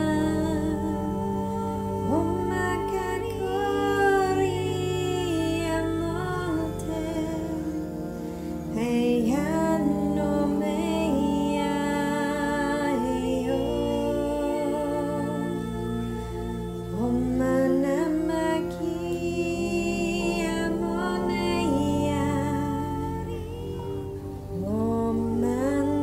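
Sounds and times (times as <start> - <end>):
low drone tones: 0.0 - 26.0.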